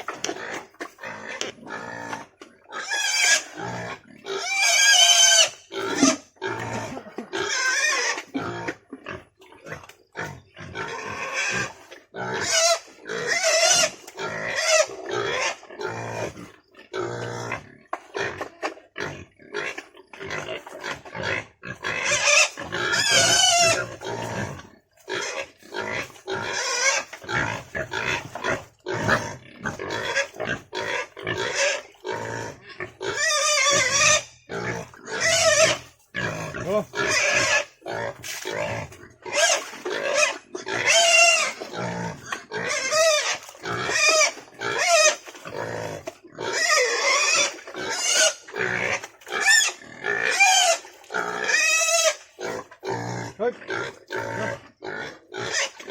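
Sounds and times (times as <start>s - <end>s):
pigs grunting: 0.0s - 55.9s
pigs squealing: 0.0s - 55.9s.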